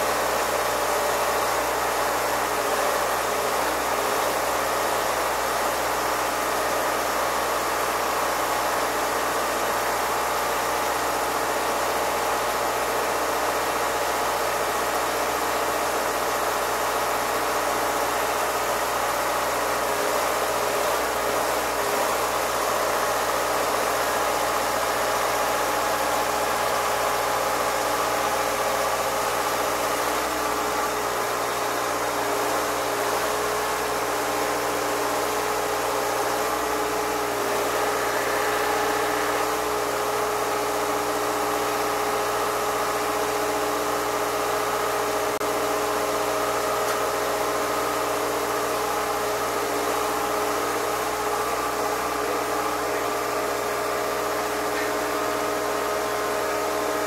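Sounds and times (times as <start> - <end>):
engine idling drone: 0.0 - 57.0.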